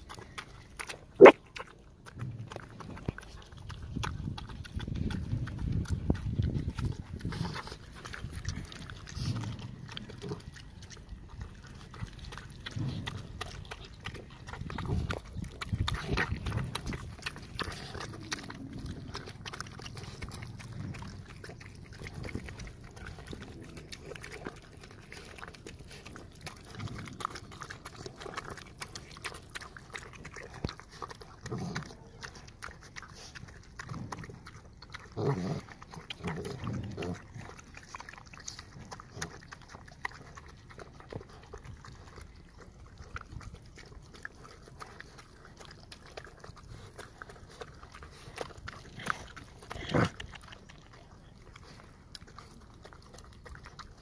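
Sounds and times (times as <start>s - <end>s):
dogs chewing: 0.0s - 54.0s.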